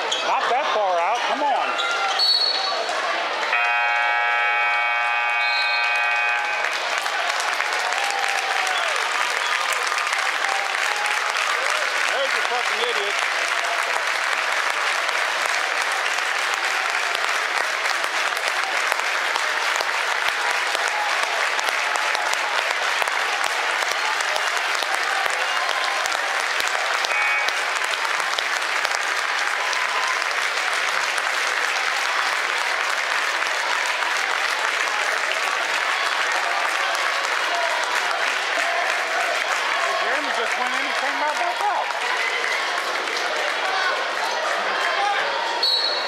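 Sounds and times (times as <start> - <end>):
crowd applauding: 2.6 - 46.0.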